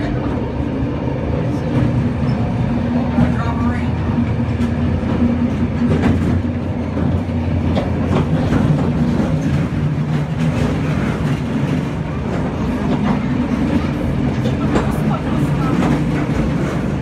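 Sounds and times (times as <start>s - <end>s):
tram running gear humming: 0.0s - 17.0s
wheels clicking and rattling on track: 0.0s - 17.0s.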